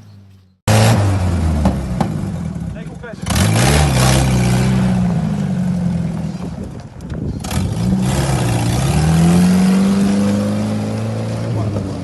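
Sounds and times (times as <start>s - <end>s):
car engine revving: 0.7s - 6.5s, 7.4s - 12.0s.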